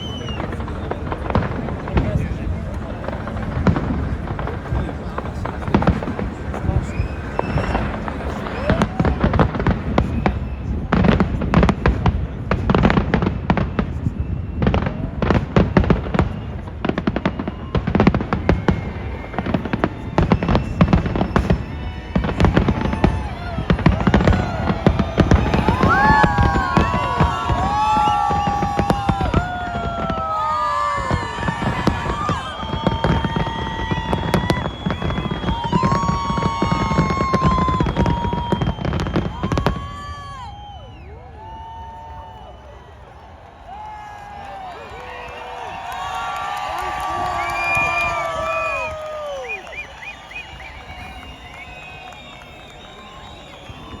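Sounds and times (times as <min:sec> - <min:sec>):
fireworks bangs and crackles: 0:00.0 - 0:54.0
fireworks whistling: 0:00.0 - 0:54.0.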